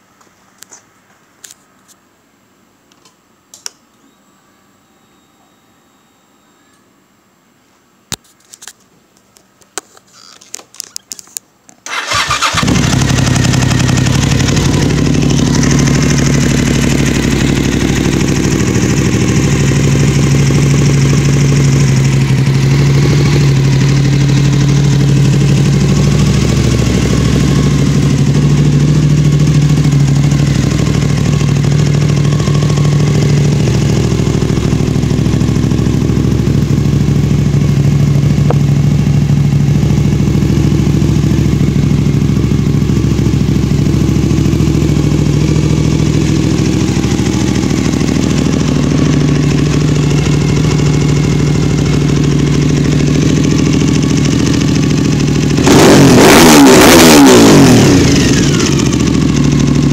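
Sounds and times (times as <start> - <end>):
motorcycle engine starting and idling: 11.8 - 59.9.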